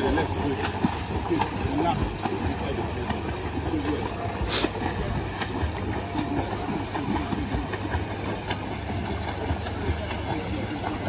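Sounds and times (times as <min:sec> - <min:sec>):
water splashing from kicking legs: 0:00.0 - 0:11.0.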